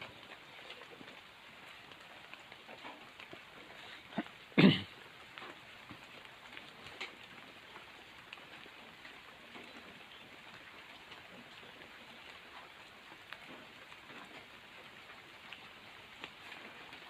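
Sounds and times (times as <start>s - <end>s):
light drip-like ticks: 0.0s - 17.0s
rain falling: 0.0s - 17.0s.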